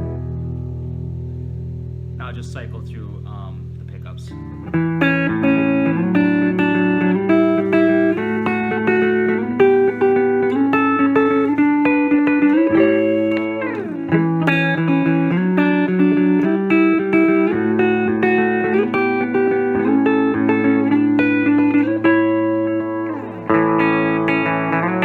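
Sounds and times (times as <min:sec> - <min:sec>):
clean electric guitar: 0:00.0 - 0:25.0
guitar slide: 0:00.0 - 0:25.0.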